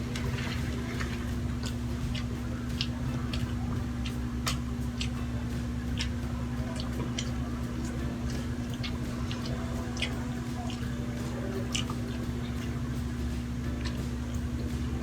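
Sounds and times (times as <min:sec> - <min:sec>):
steady low hum: 0:00.0 - 0:15.0
chewing and mouth sounds: 0:00.1 - 0:15.0.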